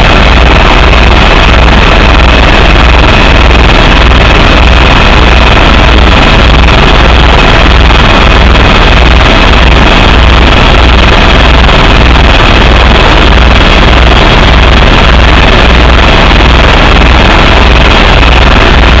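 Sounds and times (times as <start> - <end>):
helicopter turbine rushing: 0.0 - 19.0
rotor blades throbbing: 0.0 - 19.0.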